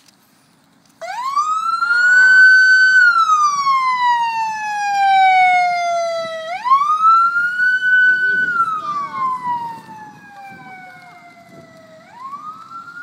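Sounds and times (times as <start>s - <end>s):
emergency vehicle siren wailing: 1.0s - 13.0s.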